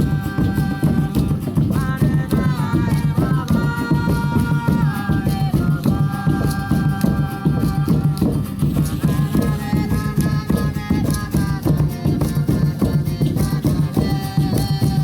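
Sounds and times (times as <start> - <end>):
pulsing low beat: 0.0 - 15.0
ritual music melody of long notes: 0.0 - 15.0
shaken clicking percussion: 0.0 - 15.0.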